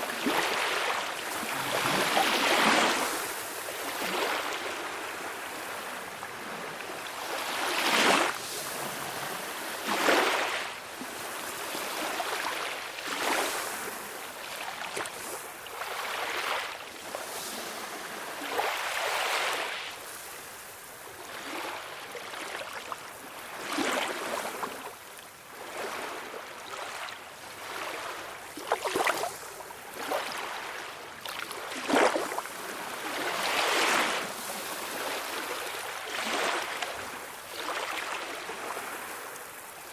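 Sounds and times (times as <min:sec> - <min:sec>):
sea waves breaking: 0:00.0 - 0:21.8, 0:25.6 - 0:39.9.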